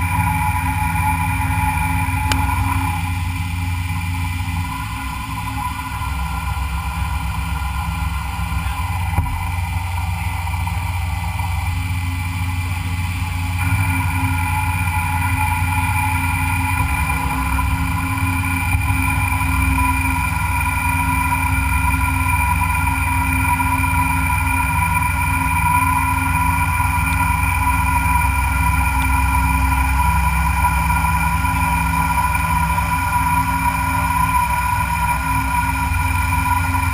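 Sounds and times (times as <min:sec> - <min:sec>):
high-pitched machine whine: 0:00.0 - 0:36.9
machine tool motor hum: 0:00.0 - 0:36.9.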